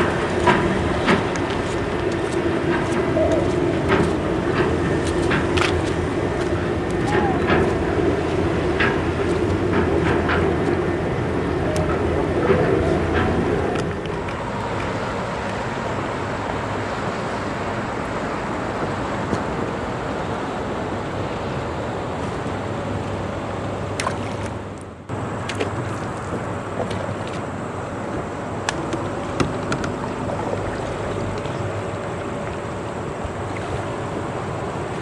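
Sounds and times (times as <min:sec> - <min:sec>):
water noise: 0:00.0 - 0:35.0
wind: 0:00.0 - 0:35.0.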